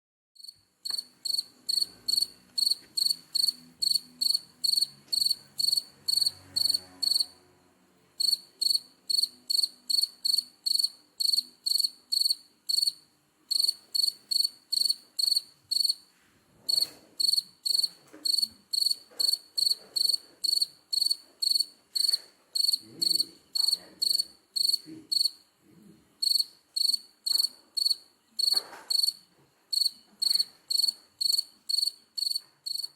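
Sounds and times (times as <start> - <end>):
cricket chirping: 0.4 - 7.4, 8.2 - 16.0, 16.7 - 25.4, 26.2 - 32.9.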